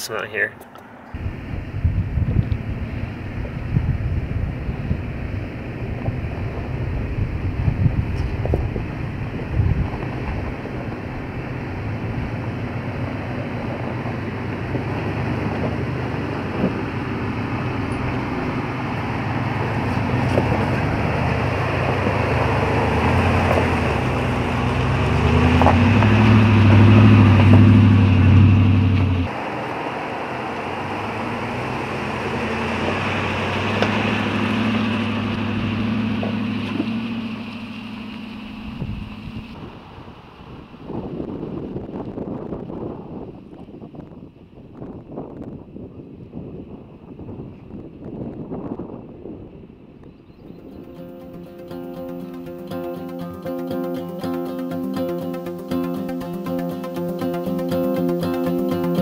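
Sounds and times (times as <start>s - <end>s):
pickup truck engine: 0.0s - 59.0s
tyre and road noise: 0.0s - 59.0s.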